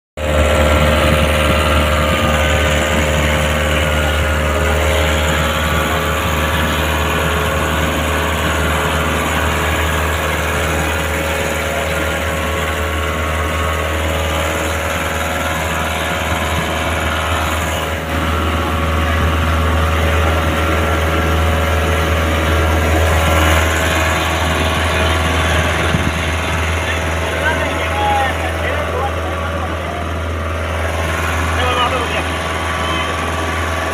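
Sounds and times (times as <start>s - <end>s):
vehicle engine running: 0.2s - 33.9s.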